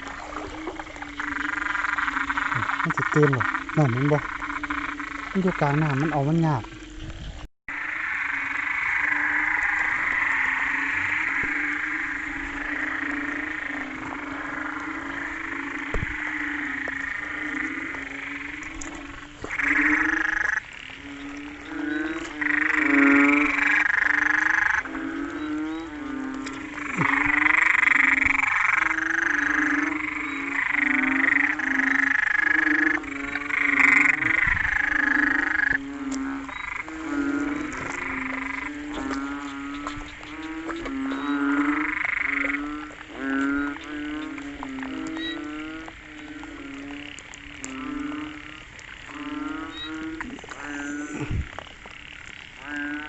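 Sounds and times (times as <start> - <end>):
fast-pulsed frog calls: 0.0 - 53.0
low frog calls: 0.0 - 53.0.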